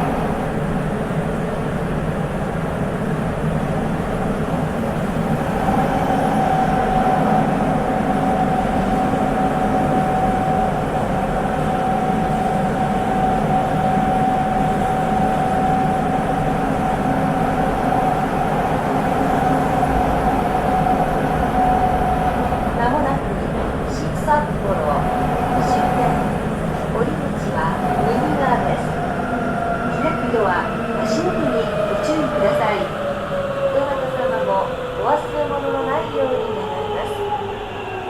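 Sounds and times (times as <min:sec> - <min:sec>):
subway train running: 0:00.0 - 0:38.0.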